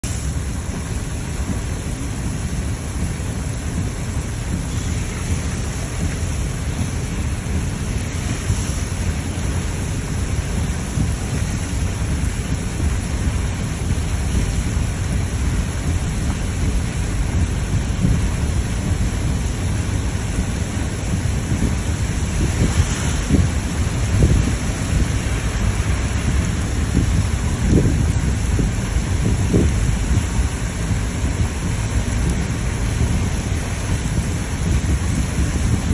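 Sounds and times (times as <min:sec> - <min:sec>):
low rumble: 0:00.0 - 0:35.9
steady rain hissing: 0:00.0 - 0:35.9.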